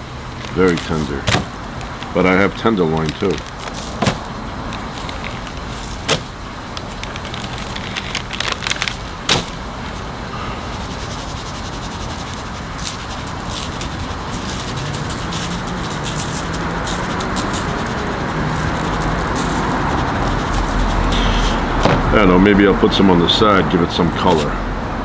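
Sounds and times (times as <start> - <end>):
steady background hiss: 0.0 - 25.0
shaker bottle rattling: 0.4 - 10.1, 10.7 - 21.8.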